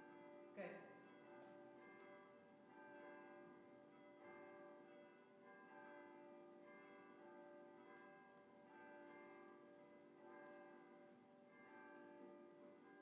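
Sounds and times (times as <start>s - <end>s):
faint church bells ringing: 0.0s - 13.0s.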